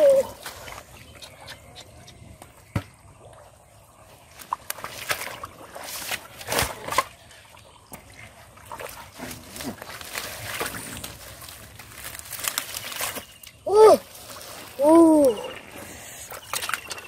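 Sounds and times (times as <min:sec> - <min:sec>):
splashing in muddy water: 0:00.0 - 0:02.3, 0:03.0 - 0:17.0.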